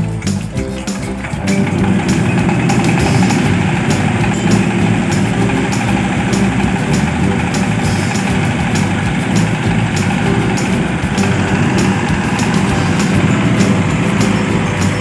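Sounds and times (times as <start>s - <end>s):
engine running steadily: 0.0s - 15.0s
light ticking rattle: 0.0s - 15.0s.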